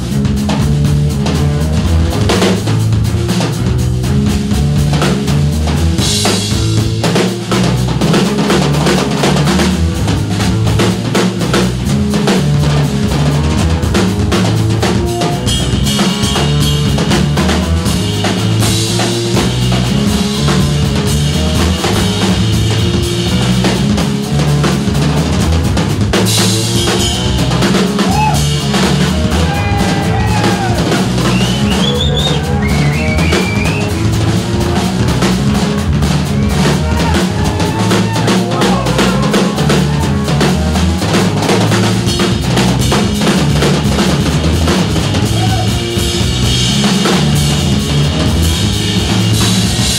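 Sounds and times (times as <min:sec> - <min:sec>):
drum kit beat: 0:00.0 - 0:49.9
electric bass line: 0:00.0 - 0:49.9.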